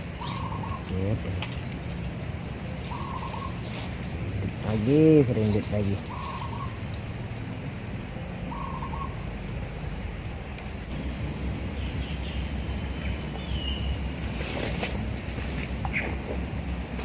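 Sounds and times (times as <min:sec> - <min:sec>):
bird calling: 0:00.0 - 0:17.0
river rumble: 0:00.0 - 0:17.0
wind: 0:00.0 - 0:17.0.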